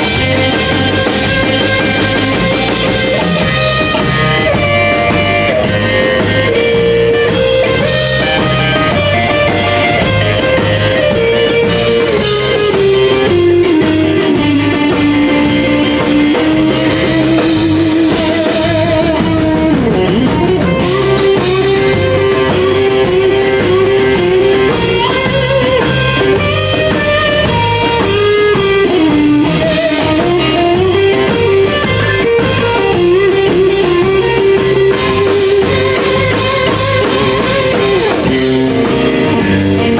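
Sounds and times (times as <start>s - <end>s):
drum kit beat: 0.0s - 39.9s
electric guitar lead with bends: 0.0s - 39.9s.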